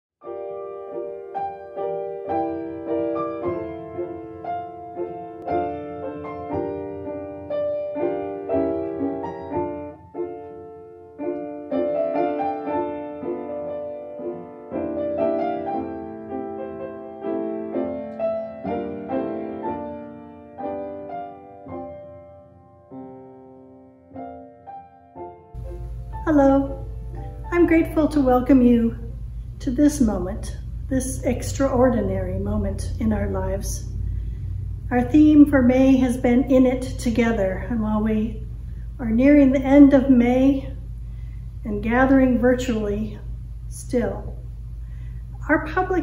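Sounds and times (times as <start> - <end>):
solo piano music: 0.2 - 37.7.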